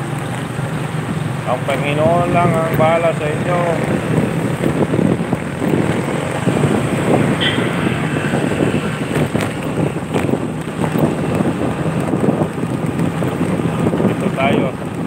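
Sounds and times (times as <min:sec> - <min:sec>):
vehicle engine running: 0:00.0 - 0:15.0
wind buffeting microphone: 0:00.0 - 0:15.0.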